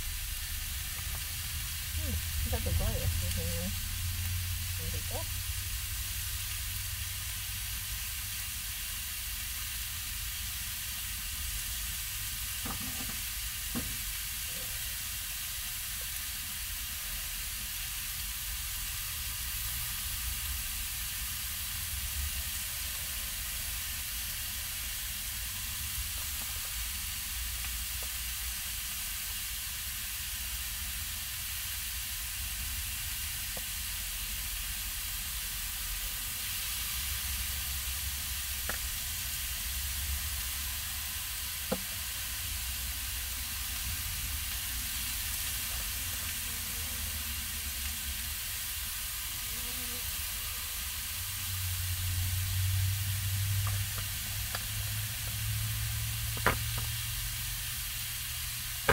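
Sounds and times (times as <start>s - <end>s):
food sizzling in a frying pan: 0.0s - 58.9s.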